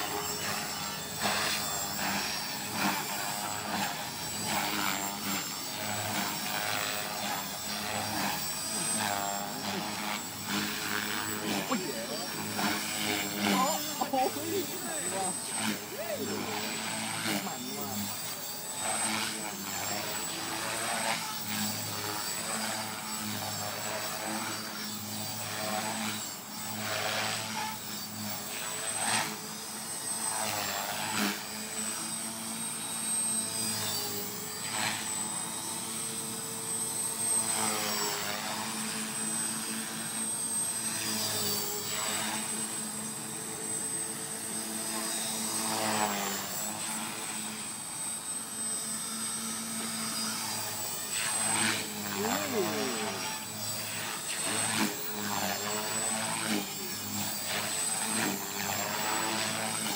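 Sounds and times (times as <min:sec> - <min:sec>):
rotor blades chopping: 0:00.0 - 0:47.7, 0:48.6 - 0:59.9
rc helicopter motor whine: 0:00.0 - 0:59.9.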